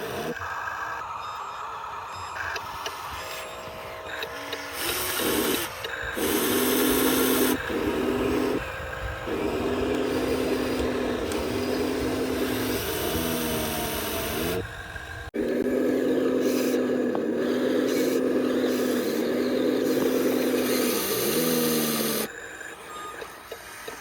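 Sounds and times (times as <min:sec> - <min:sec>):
electric motors whining: 0:00.0 - 0:24.0.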